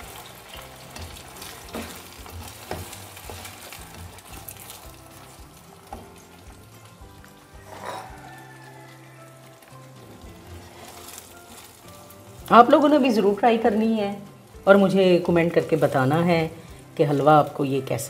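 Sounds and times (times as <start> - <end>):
batter sizzling in hot oil: 0.0 - 18.0.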